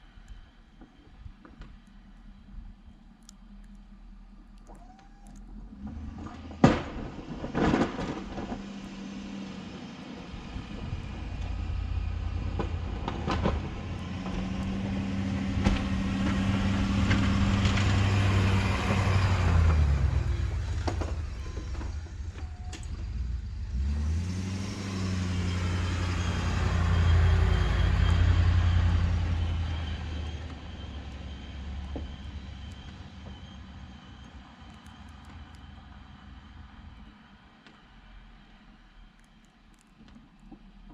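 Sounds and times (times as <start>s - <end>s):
pickup truck engine under load: 1.2s - 35.8s.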